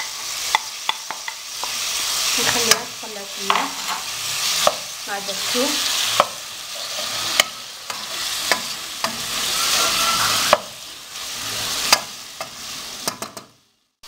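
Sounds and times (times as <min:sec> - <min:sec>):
vegetables sizzling in oil: 0:00.0 - 0:13.9.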